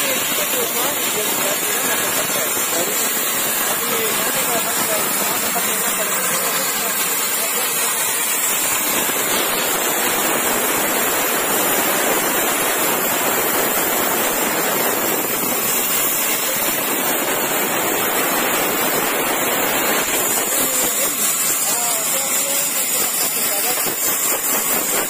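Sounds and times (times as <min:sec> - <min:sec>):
band saw cutting wood: 0:00.0 - 0:25.0.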